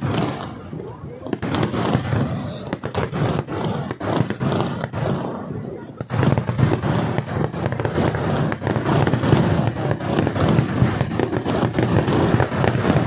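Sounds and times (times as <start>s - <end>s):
firecracker bangs: 0.0s - 13.0s.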